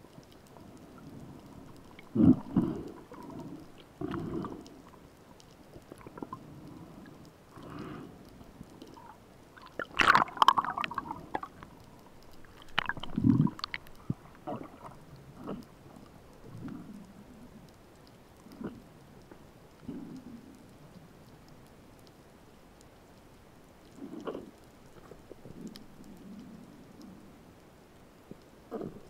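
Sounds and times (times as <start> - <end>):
crackling clicks: 0.0 - 29.0
underwater rumbles and gurgles: 0.0 - 29.0.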